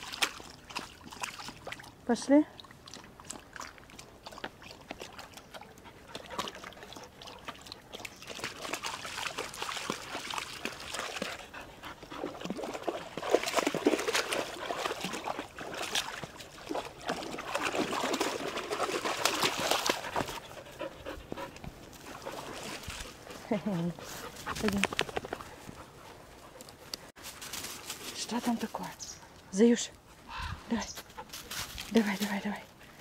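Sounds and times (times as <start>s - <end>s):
dogs splashing through water: 0.0s - 26.5s.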